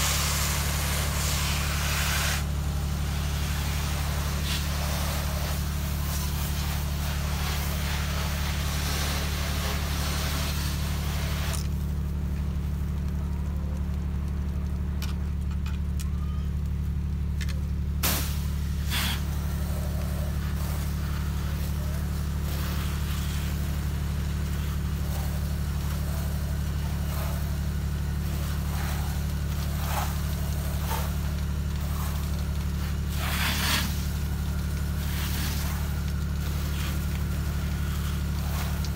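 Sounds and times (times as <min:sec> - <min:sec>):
hissing spray: 0:00.0 - 0:12.0, 0:18.0 - 0:38.9
pump motor humming: 0:00.0 - 0:38.9.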